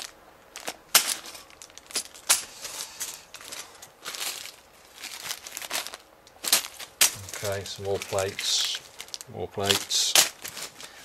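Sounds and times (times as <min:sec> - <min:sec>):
plastic bags crinkling: 0:00.0 - 0:11.0
plastic pieces shifting: 0:00.0 - 0:11.0.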